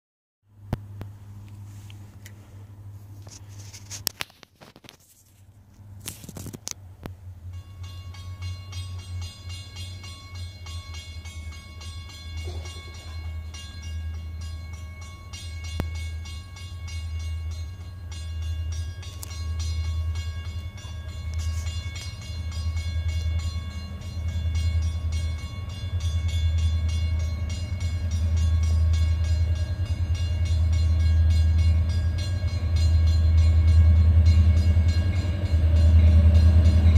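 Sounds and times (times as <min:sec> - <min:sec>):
locomotive engine rumble: 0:00.5 - 0:36.9.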